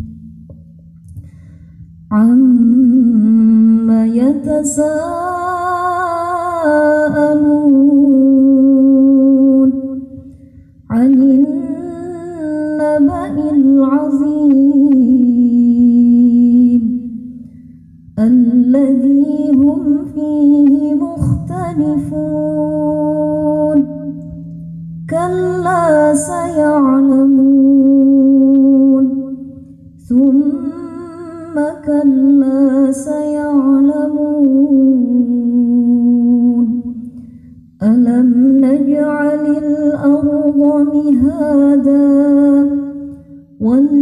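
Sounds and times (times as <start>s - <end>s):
woman chanting melodically: 2.1s - 10.3s, 10.9s - 17.3s, 18.2s - 24.3s, 25.1s - 37.2s, 37.8s - 44.0s.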